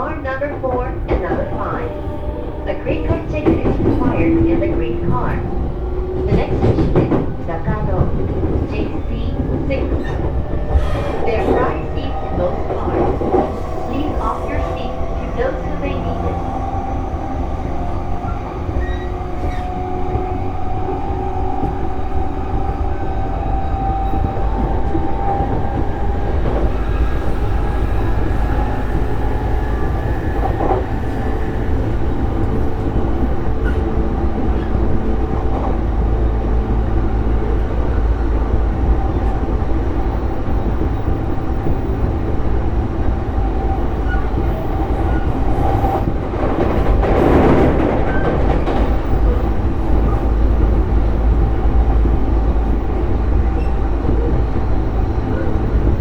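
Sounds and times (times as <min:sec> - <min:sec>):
train rattling: 0:00.0 - 0:56.0
train wheels rumbling on rail: 0:00.0 - 0:56.0.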